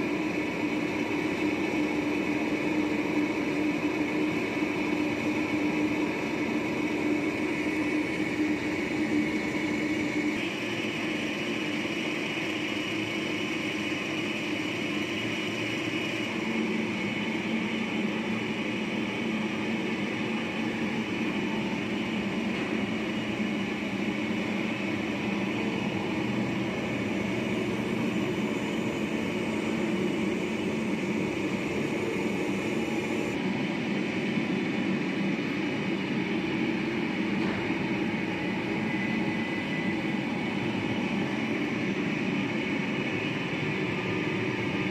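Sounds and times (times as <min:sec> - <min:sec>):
lathe machine drone with hiss: 0:00.0 - 0:44.9.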